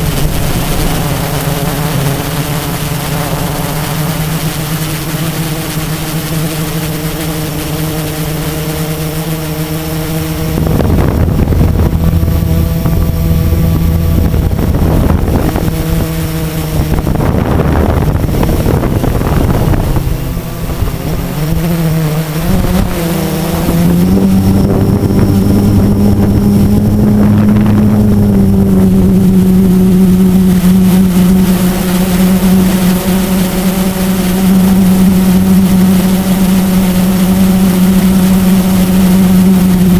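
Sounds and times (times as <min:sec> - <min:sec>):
quadcopter motors humming: 0:00.0 - 0:39.9
wind rushing over microphone: 0:00.0 - 0:39.9.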